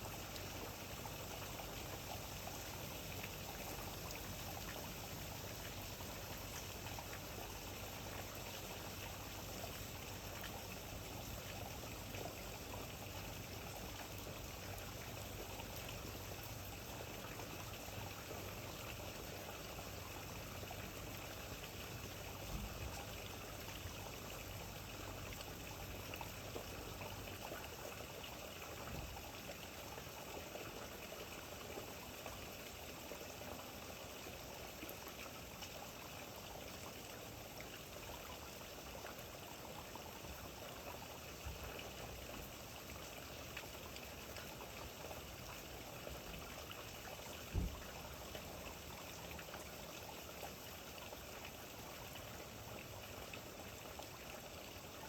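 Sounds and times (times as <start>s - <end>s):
water running and trickling: 0.0s - 55.0s.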